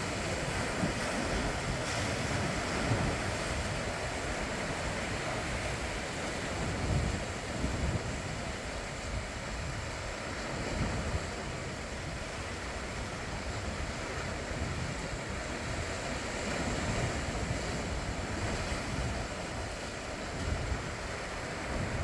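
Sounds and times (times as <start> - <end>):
sea waves washing ashore: 0.0 - 22.0
wind buffeting microphone: 0.0 - 22.0.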